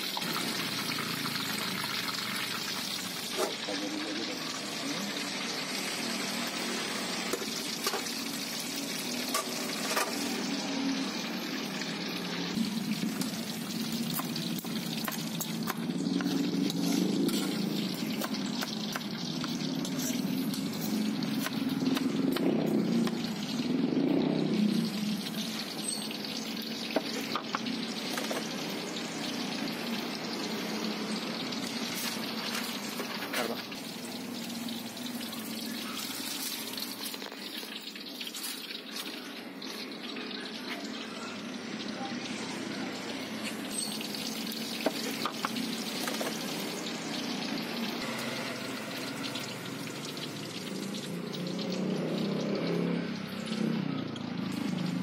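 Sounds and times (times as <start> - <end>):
oil sizzling: 0.0 - 55.0.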